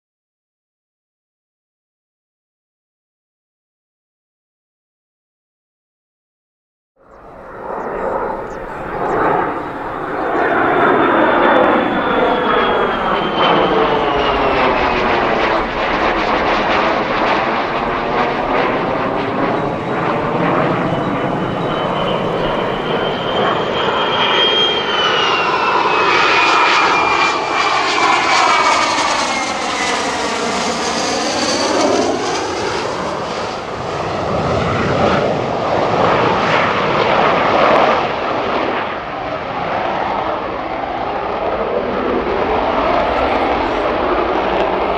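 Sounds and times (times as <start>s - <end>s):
jets flying overhead: 7.0s - 44.9s.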